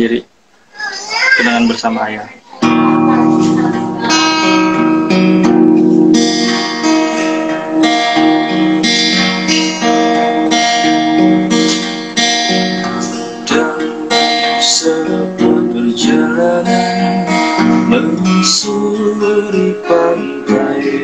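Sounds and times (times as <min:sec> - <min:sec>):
acoustic guitar strumming: 0:01.2 - 0:21.0.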